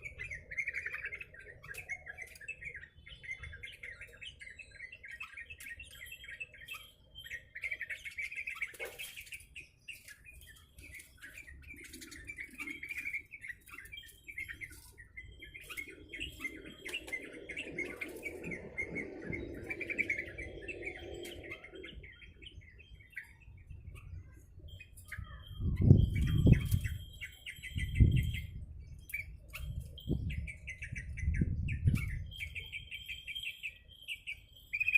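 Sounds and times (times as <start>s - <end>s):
bird chirping and chattering: 0.0s - 34.9s.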